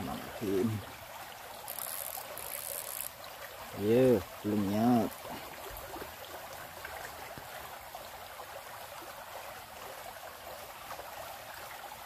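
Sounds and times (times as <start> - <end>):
stream flowing over riffles: 0.0 - 12.0.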